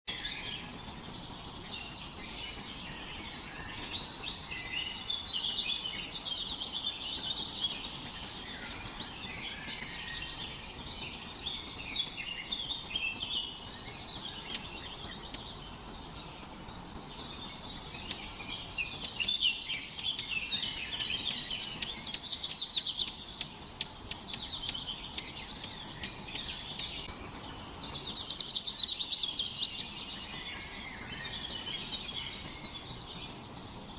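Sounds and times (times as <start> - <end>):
songbirds singing and chirping: 0.1 - 33.9.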